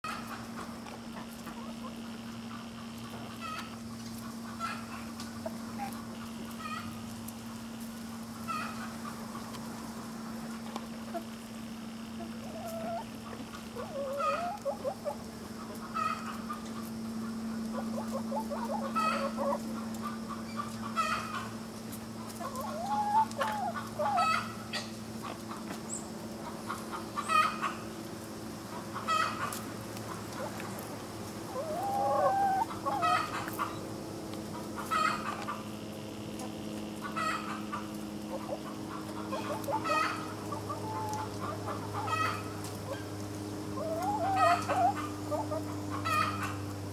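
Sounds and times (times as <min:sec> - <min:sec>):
hens clucking: 0:00.1 - 0:46.9
steady low hum: 0:00.1 - 0:46.9.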